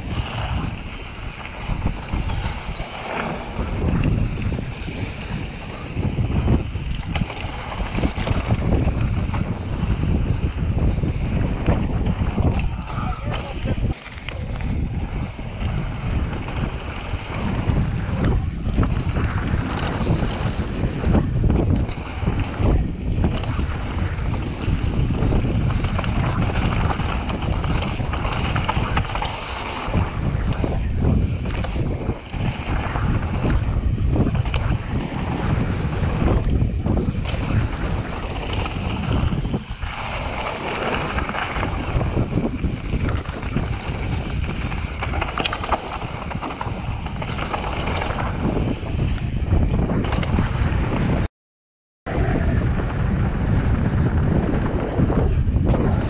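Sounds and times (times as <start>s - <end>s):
tyres rolling over gravel: 0.0s - 50.7s
bike rattling and knocking: 0.0s - 51.3s, 52.1s - 56.0s
wind rushing over microphone: 0.0s - 51.3s, 52.1s - 56.0s.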